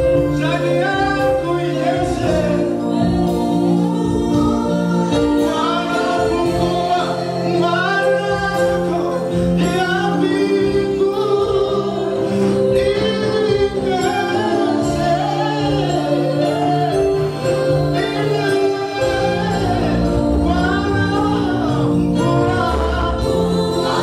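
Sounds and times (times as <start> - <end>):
backing voices singing: 0.0 - 24.0
man singing lead: 0.0 - 24.0
sustained accompaniment chords: 0.0 - 24.0.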